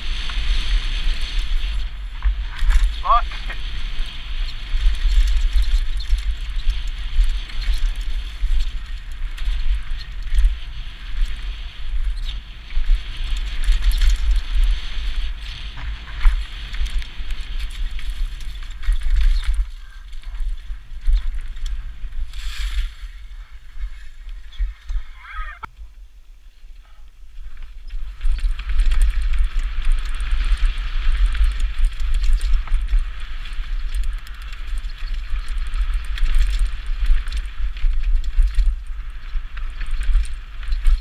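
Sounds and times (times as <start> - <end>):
bike clicking and rattling: 0.0 - 25.7, 26.7 - 41.0
bike tyres rolling and skidding on dirt: 0.0 - 41.0
wind rumble on microphone: 0.0 - 41.0.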